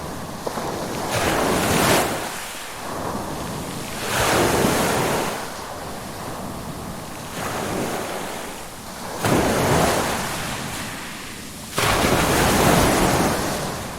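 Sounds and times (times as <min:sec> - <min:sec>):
ocean waves breaking: 0:00.0 - 0:13.9.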